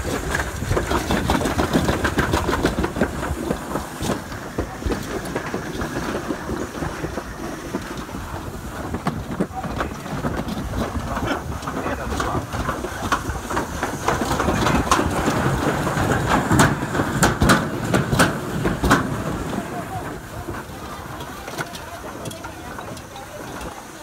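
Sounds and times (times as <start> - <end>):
sled clacking against track: 0.0 - 24.0
sleds rattling down metal chute: 0.0 - 24.0.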